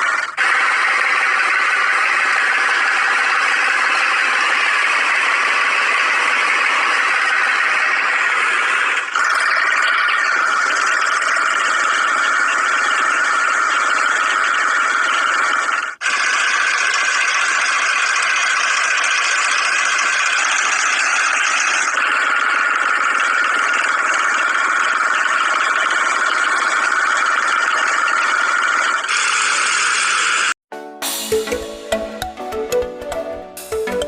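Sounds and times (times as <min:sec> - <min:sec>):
engine running with rattle: 0:00.0 - 0:30.6.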